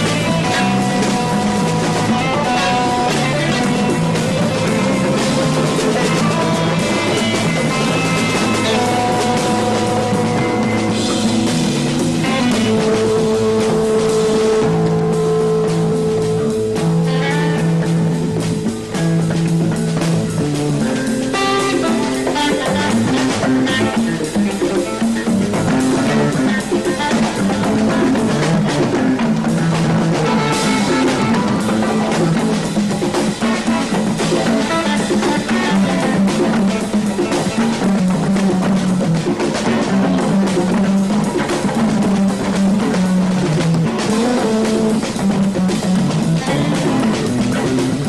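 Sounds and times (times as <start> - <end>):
bass line: 0.0 - 48.0
drum kit steady beat: 0.0 - 48.0
electric guitar: 0.0 - 48.0.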